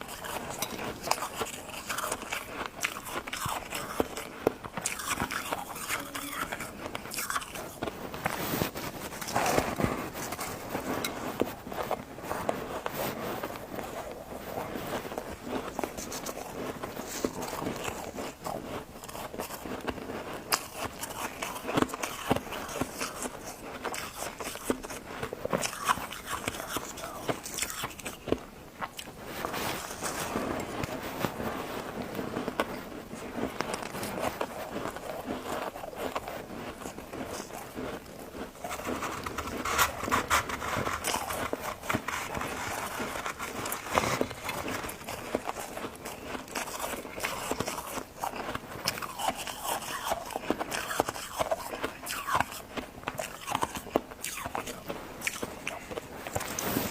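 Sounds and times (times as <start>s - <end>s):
person crunching ice: 0.0s - 12.0s, 14.8s - 32.9s, 33.7s - 56.9s.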